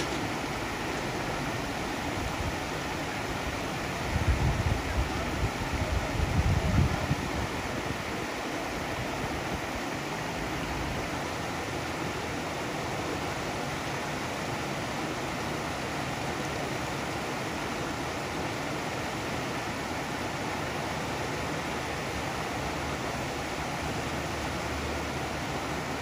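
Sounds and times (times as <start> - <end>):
water rushing over stones: 0.0 - 26.0.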